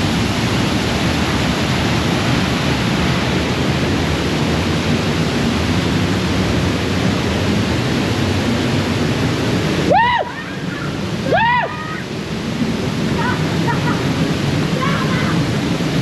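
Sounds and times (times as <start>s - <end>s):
river and waterfall rushing: 0.0s - 16.0s.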